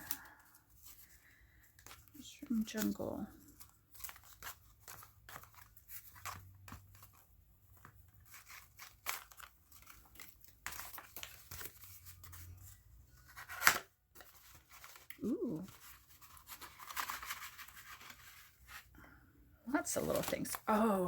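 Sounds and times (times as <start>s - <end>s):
paper rustling and crinkling: 0.0s - 19.0s, 19.7s - 21.0s.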